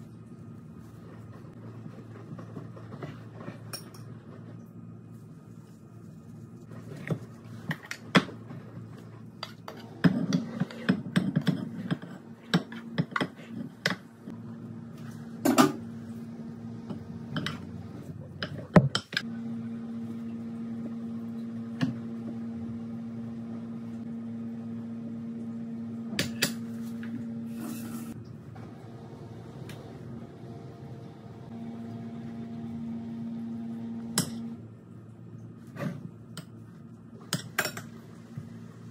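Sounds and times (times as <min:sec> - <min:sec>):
low appliance hum: 0:00.0 - 0:38.9.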